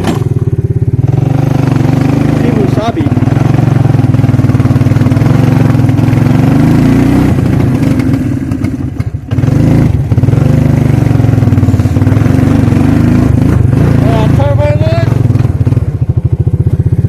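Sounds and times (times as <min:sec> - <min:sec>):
atv engine under throttle: 0:00.0 - 0:17.0.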